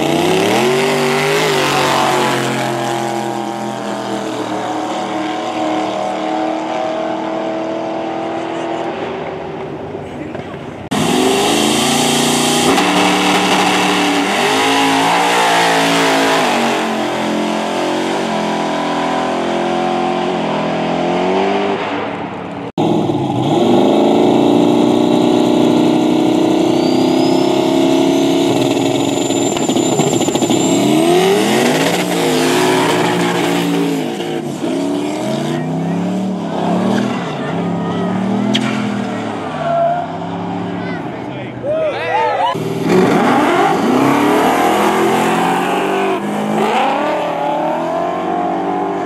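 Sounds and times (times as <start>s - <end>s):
race car engines at full throttle: 0.0s - 49.0s.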